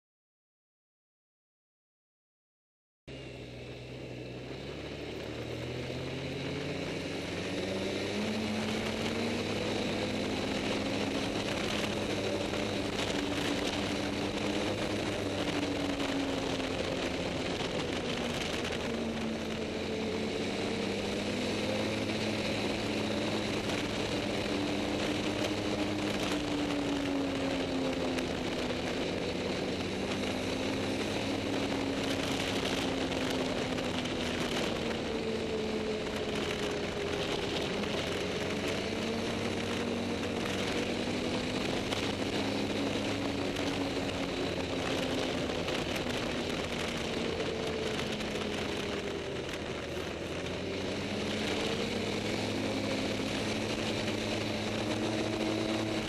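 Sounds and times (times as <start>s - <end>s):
snowmobile engine: 3.1s - 56.0s
steady rushing noise: 3.1s - 56.0s.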